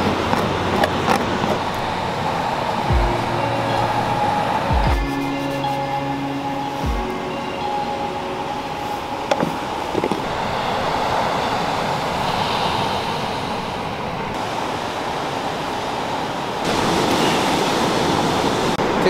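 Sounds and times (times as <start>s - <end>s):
waves breaking: 0.0s - 19.0s
wind: 0.0s - 19.0s.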